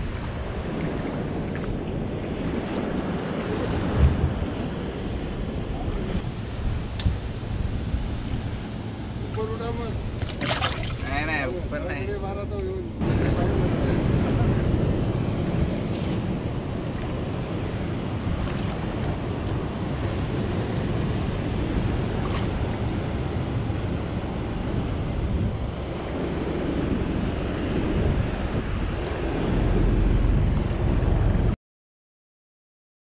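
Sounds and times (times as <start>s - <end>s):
sea waves around boat: 0.0s - 31.6s
wind buffeting microphone: 0.0s - 31.6s.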